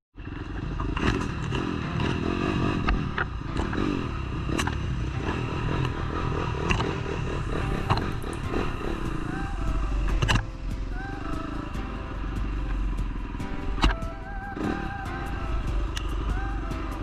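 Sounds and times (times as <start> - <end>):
dirt bike engine: 0.2 - 17.0.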